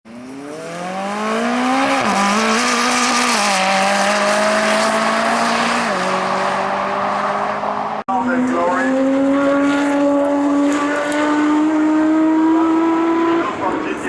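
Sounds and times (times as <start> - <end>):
sports car engine on track: 0.1 - 14.0.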